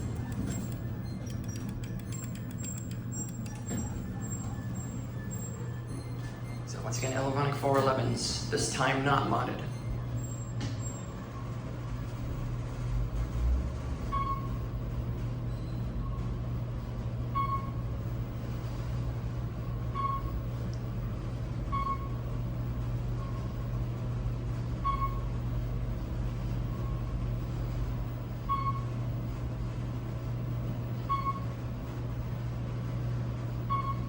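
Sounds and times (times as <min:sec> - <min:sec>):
elevator car humming: 0:00.0 - 0:34.0.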